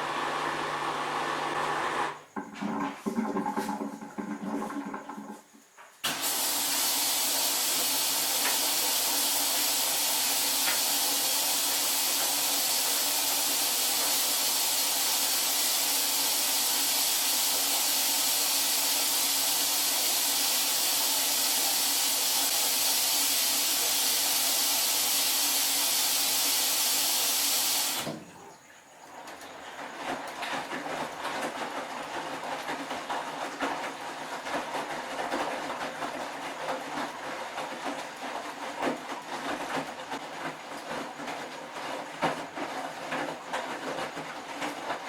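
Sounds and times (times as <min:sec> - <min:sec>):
washing machine filling with water: 0:00.0 - 0:45.0.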